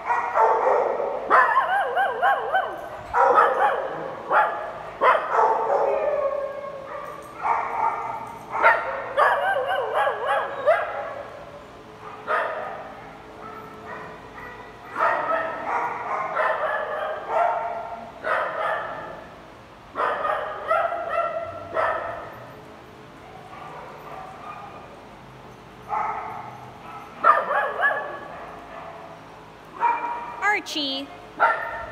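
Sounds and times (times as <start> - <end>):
small dogs barking and yapping: 0.0 - 22.6, 23.2 - 25.1, 25.8 - 30.4, 31.3 - 31.9.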